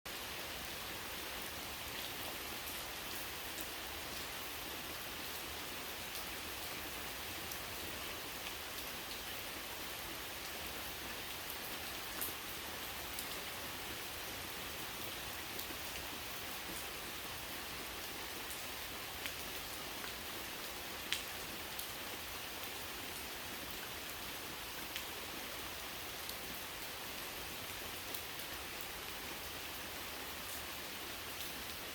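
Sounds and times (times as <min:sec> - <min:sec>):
steady rain hiss: 0:00.1 - 0:31.9.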